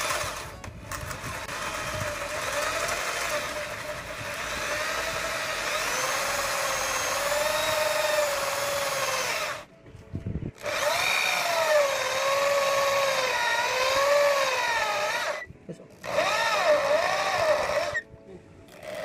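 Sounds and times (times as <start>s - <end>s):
electric drill with hole saw cutting wood: 0.0s - 9.7s, 10.6s - 18.0s, 18.7s - 19.0s.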